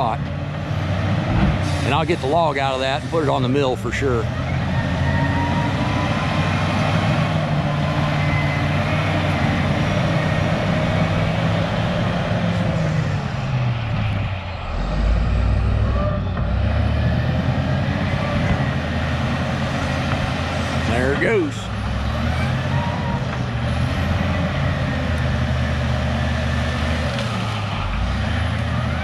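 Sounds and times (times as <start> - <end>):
bulldozer diesel engine under load: 0.0 - 29.0.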